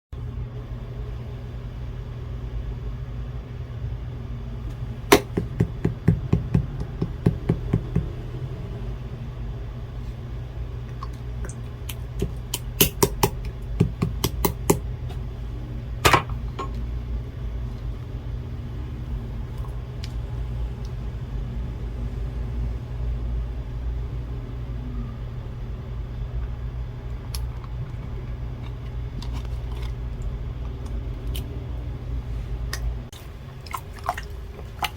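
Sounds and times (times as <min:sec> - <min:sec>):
steady low hum: 0:00.1 - 0:34.9.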